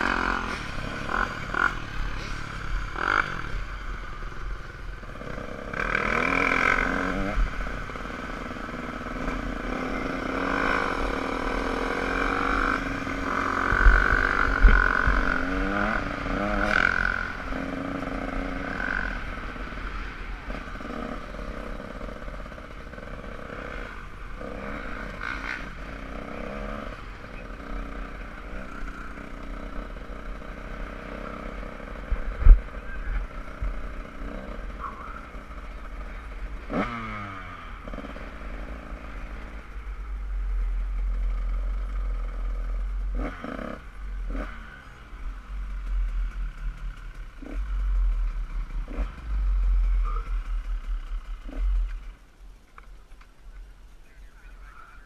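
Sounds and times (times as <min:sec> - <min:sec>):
dirt bike engine puttering: 0:00.0 - 0:03.8, 0:05.2 - 0:53.7.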